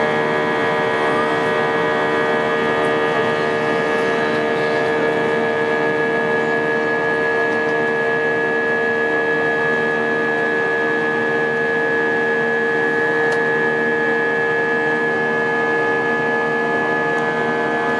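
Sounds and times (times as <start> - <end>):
jet engine drone in cabin: 0.0 - 17.9.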